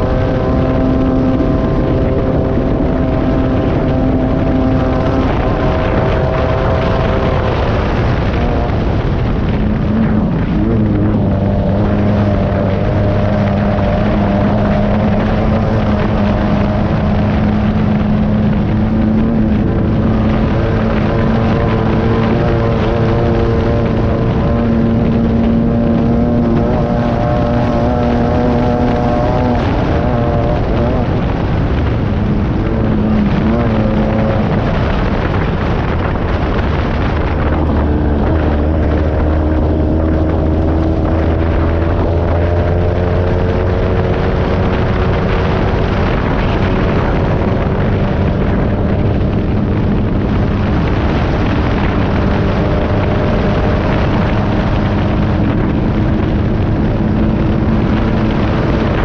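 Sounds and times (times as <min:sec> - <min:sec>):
buggy engine running at speed: 0:00.0 - 0:59.0
road noise: 0:00.0 - 0:59.0
wind noise: 0:00.0 - 0:59.0.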